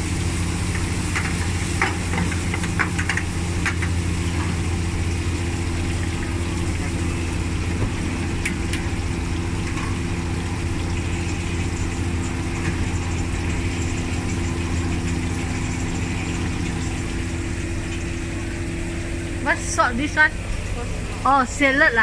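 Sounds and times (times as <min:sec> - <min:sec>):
low machine hum: 0:00.0 - 0:22.0
oil frying in a wok: 0:00.0 - 0:22.0.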